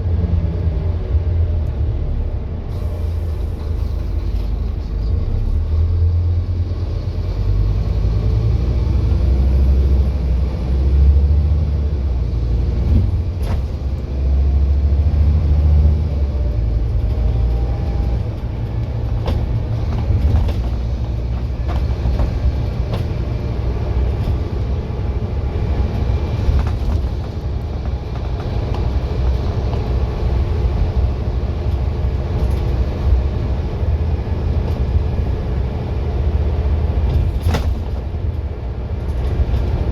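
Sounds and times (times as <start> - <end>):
diesel bus engine rumbling: 0.0 - 39.9.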